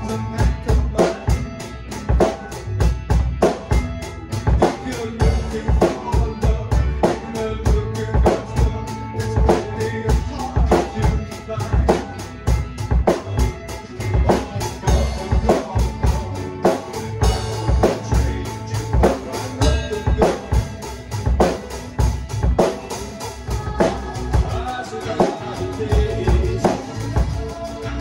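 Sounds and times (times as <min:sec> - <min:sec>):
drum kit playing rock beat: 0:00.0 - 0:28.0
recorded song playing: 0:00.0 - 0:28.0.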